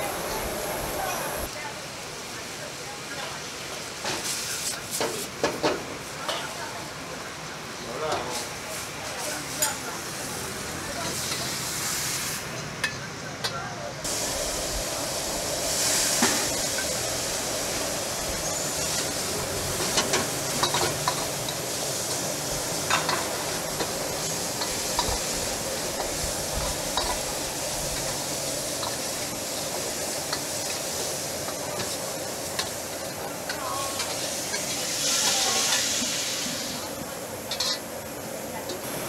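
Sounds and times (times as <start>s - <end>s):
food sizzling in a wok: 0.0s - 13.3s, 14.0s - 39.0s.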